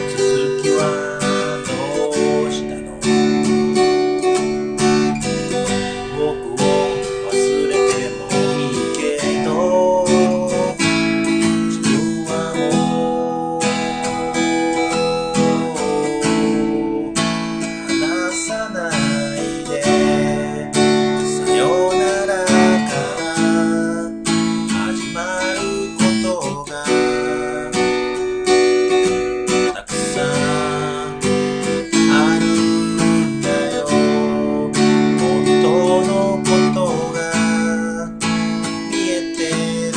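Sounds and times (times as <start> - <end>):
man singing: 0.0 - 39.9
strummed acoustic guitar: 0.0 - 39.9.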